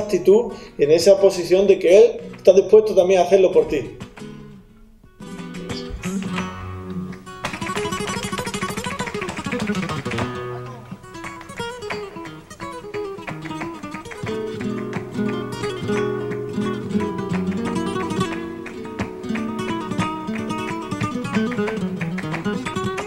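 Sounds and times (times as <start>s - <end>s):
acoustic guitar piece: 1.4s - 23.0s.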